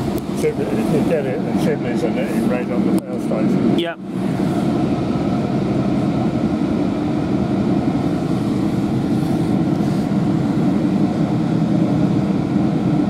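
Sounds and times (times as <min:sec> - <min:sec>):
train coach rumbling on rails: 0:00.0 - 0:13.0.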